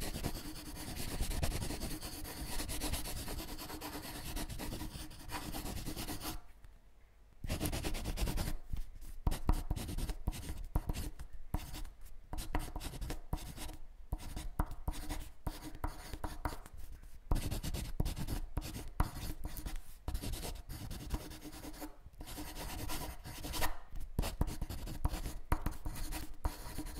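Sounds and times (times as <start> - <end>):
scratchy writing on paper: 0.0 - 6.4, 7.4 - 26.9.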